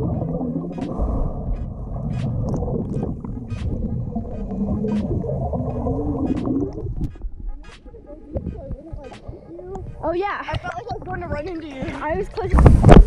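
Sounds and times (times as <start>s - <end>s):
muffled underwater water rushing: 0.0s - 13.0s.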